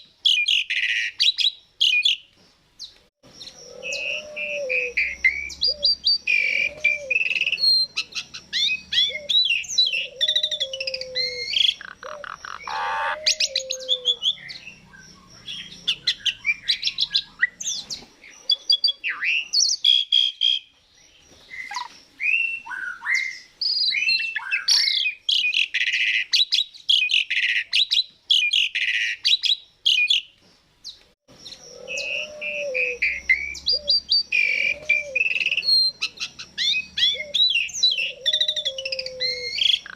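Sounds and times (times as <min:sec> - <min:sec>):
starling singing whistles and chirps: 0:02.8 - 0:39.9.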